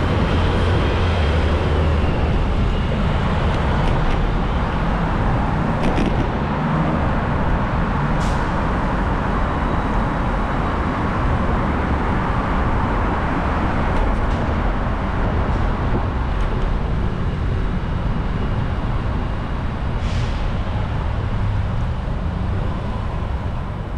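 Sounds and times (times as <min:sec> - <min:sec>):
street traffic rumble: 0:00.0 - 0:23.9.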